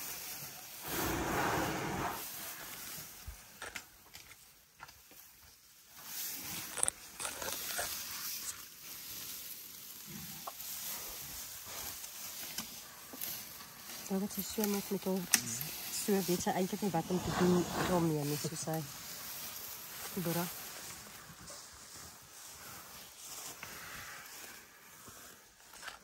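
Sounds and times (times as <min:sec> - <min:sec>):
dry grass rustling and crackling: 0:00.0 - 0:00.8, 0:02.2 - 0:26.0
elephants chewing grass: 0:00.0 - 0:26.0.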